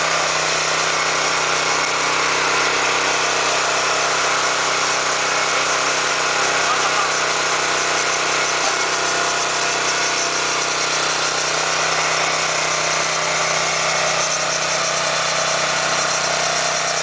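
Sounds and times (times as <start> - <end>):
small petrol engine running: 0.0 - 17.0.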